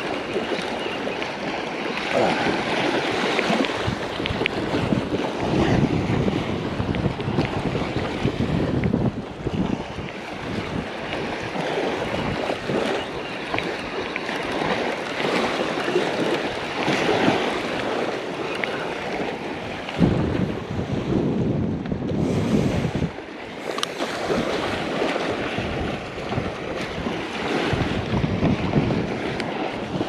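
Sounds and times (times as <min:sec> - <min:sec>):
surf washing onto beach: 0:00.0 - 0:30.0
wind buffeting microphone: 0:00.0 - 0:30.0.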